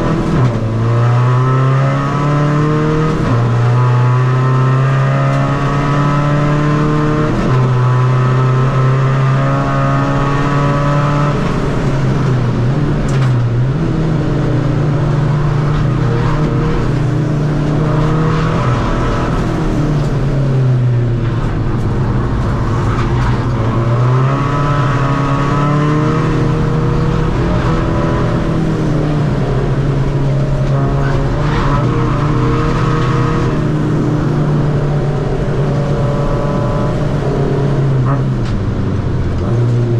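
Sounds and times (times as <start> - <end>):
diesel car engine revving: 0.0 - 39.9.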